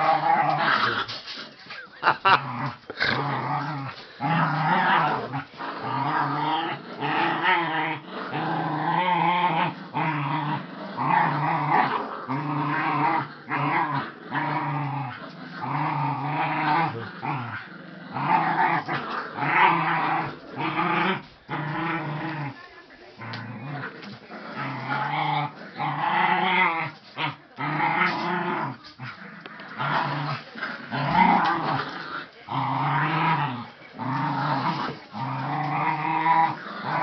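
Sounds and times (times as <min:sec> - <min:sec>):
dog growling in play: 0:00.0 - 0:37.0.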